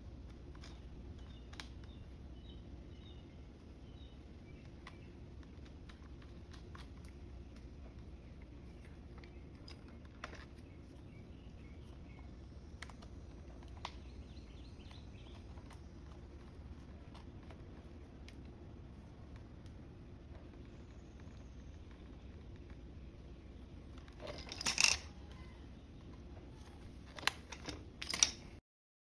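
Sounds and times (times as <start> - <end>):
low steady hum: 0.0 - 28.6.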